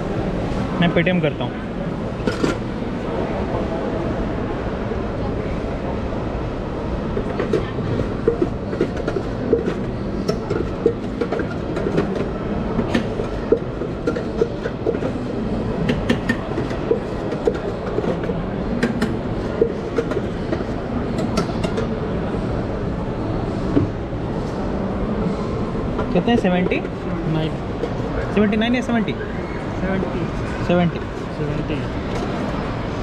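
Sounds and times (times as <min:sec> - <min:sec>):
hubbub of busy mall: 0:00.0 - 0:33.0.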